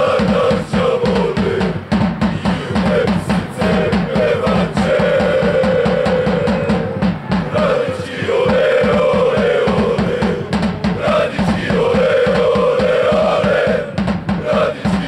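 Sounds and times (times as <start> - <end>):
crowd chanting: 0.0 - 15.0
drums beating fast rhythm: 0.0 - 15.0.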